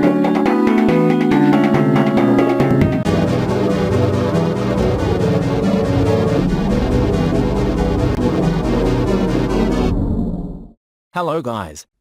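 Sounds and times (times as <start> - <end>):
electronic video game music: 0.0 - 10.2.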